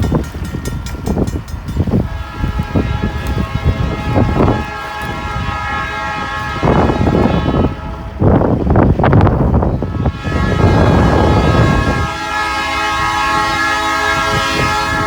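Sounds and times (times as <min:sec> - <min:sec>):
train rumble: 0:00.0 - 0:15.0
wind on microphone: 0:00.0 - 0:15.0
locomotive air horn: 0:01.8 - 0:15.0.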